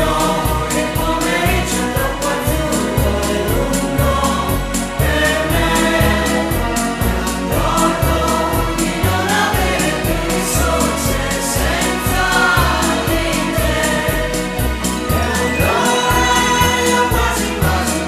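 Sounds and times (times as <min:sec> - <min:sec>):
choir singing over a beat: 0:00.0 - 0:18.0.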